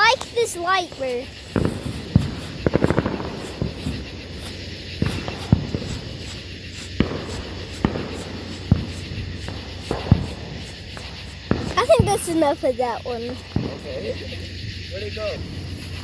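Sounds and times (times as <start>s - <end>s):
firework crackles: 0.0s - 16.0s
firework fizzing: 0.0s - 16.0s
firework sharp pops: 0.0s - 16.0s.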